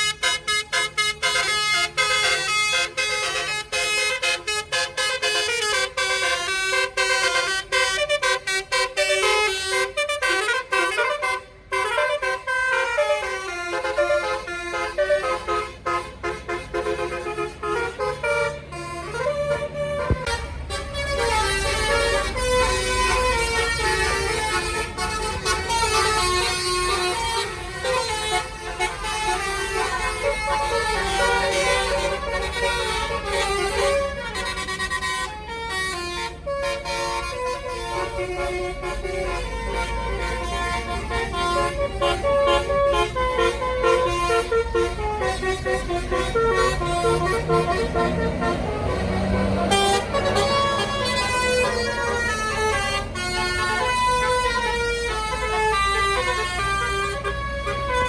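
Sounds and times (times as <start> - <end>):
bus engine rumble: 0.0 - 58.0
multi-tone bus horn tune: 0.0 - 58.0.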